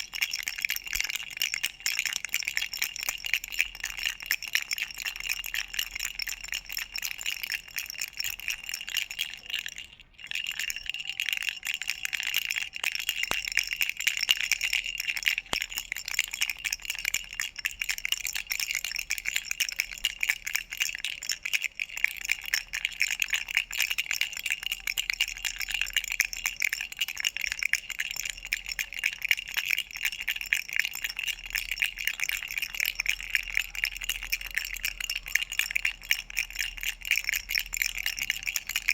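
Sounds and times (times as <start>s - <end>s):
rattle toy jingling: 0.0s - 38.9s.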